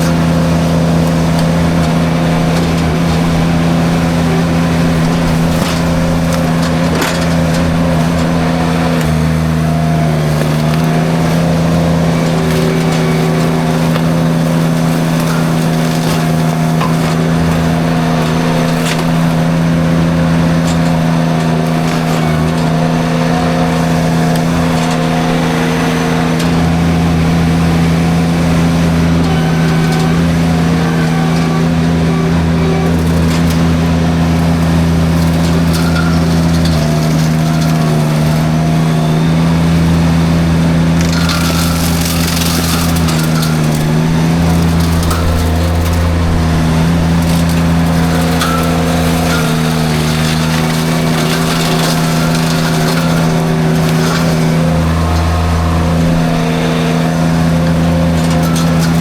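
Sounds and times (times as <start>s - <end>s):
brush cracking and snapping: 0.0s - 59.0s
skid steer engine under load: 0.0s - 59.0s.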